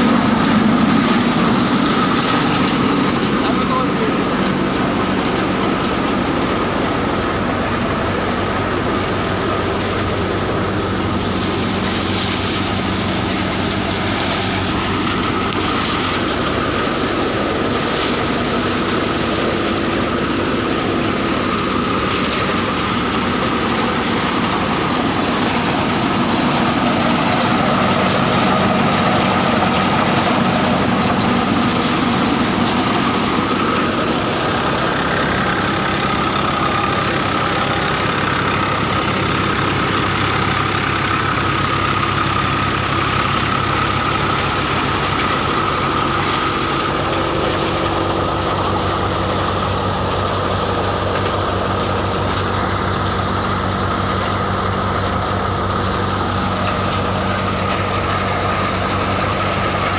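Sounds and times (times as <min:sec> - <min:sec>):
thresher rattling and roaring: 0:00.0 - 0:59.9
tractor engine hum: 0:00.0 - 0:59.9.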